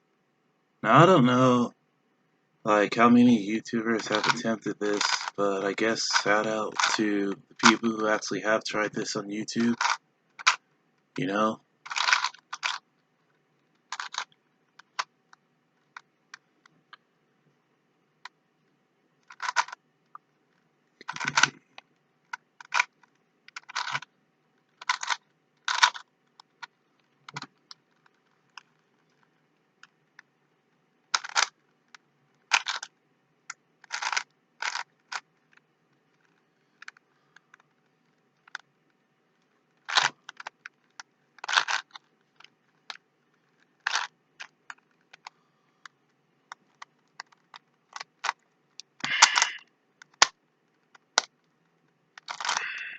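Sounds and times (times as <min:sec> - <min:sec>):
puzzle cube clacking turns: 0:02.8 - 0:17.0, 0:18.2 - 0:52.9.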